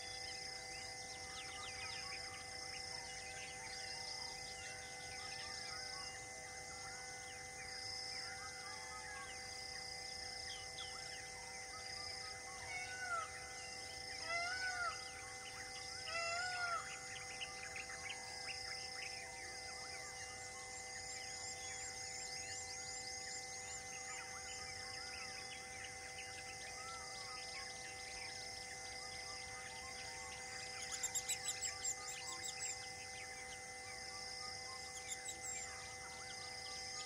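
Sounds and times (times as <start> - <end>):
faint hum of held tones: 0.0 - 37.0
pulsing insect call: 0.0 - 37.0.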